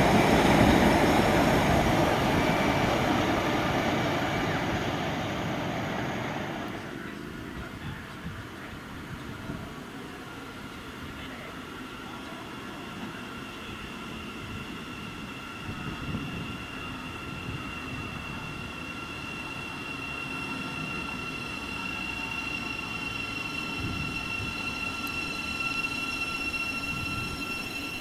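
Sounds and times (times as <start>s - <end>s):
train rumbling with high whine: 0.0s - 28.0s.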